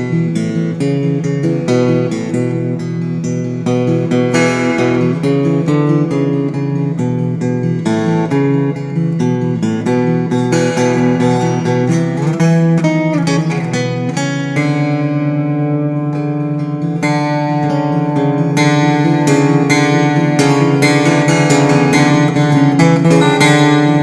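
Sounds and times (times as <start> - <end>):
acoustic guitar picking: 0.0 - 24.0.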